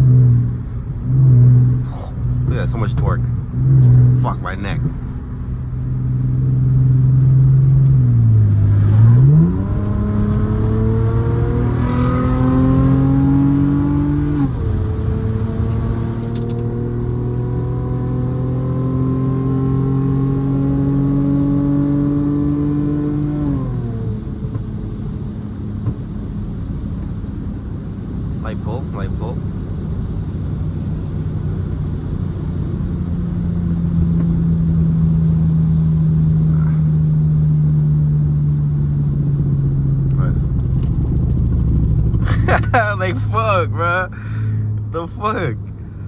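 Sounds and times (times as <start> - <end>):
car exhaust accelerating through gears: 0.0 - 28.7, 29.4 - 46.0.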